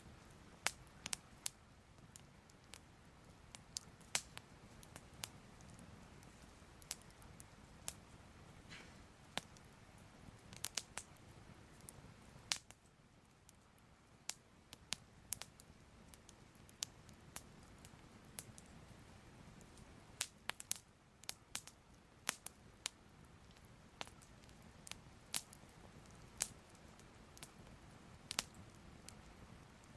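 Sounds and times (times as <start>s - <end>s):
faint low hiss: 0.0s - 29.9s
fire crackling and popping: 0.0s - 29.9s.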